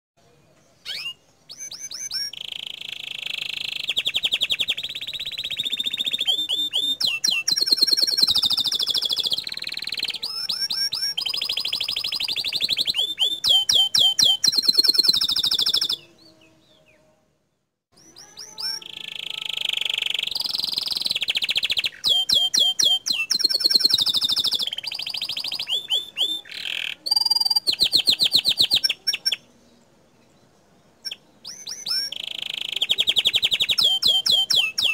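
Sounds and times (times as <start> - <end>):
canary singing rapid trills: 0.8 - 16.1, 18.0 - 29.4, 31.0 - 34.9.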